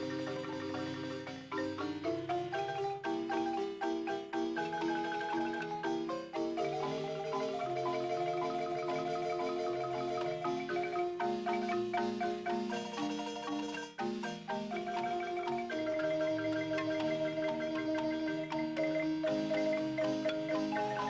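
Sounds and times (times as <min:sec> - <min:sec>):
marimba music: 0:00.0 - 0:21.0.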